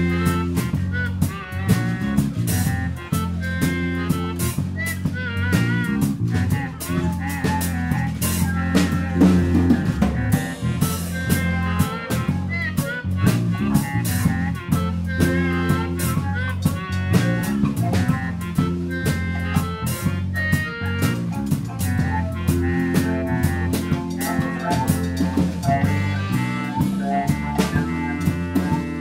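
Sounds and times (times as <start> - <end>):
bluesy music with drums and bass: 0.0 - 29.0.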